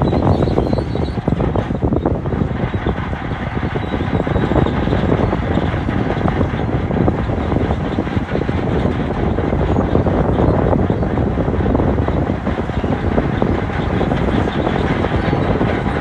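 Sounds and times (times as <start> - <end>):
bulldozer diesel engine rumbling: 0.0 - 16.0.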